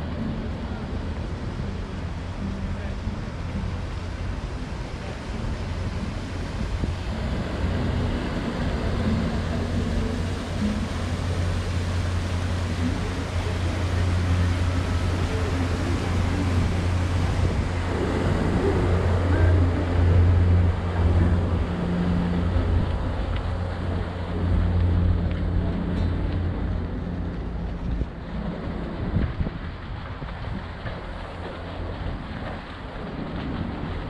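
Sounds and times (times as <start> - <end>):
faint voices: 0.0 - 34.0
low engine hum: 0.0 - 34.0
outdoor rumble: 0.0 - 34.0.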